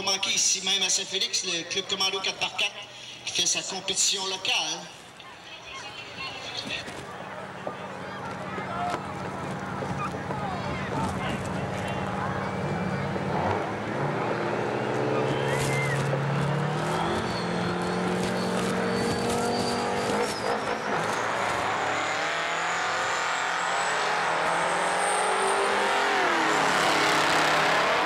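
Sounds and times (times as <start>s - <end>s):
truck engines accelerating: 4.9s - 28.0s.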